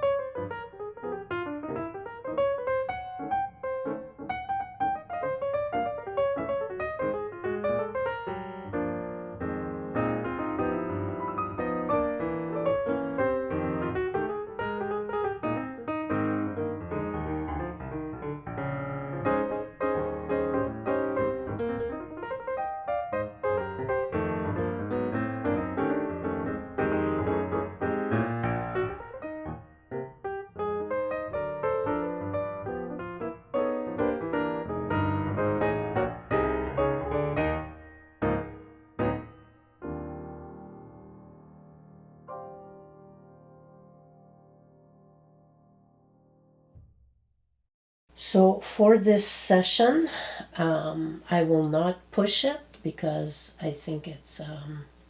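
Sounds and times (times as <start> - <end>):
piano music: 0.0 - 46.8.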